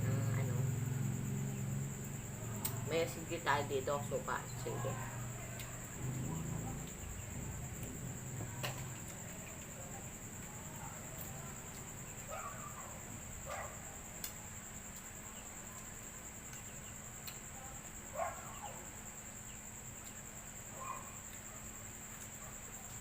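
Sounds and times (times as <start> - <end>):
high insect trill: 0.0 - 23.0.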